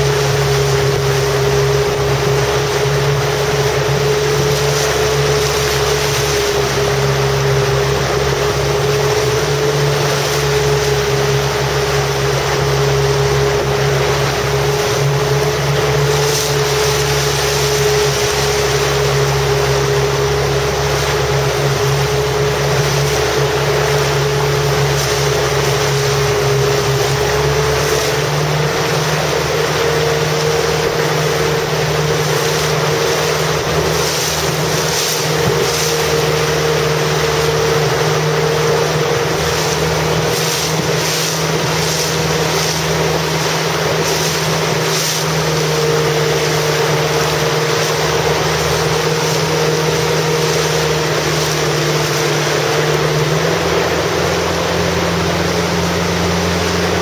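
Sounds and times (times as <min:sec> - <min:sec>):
motorboat engine droning: 0:00.0 - 0:57.0
water noise: 0:00.0 - 0:57.0
wind: 0:00.0 - 0:57.0.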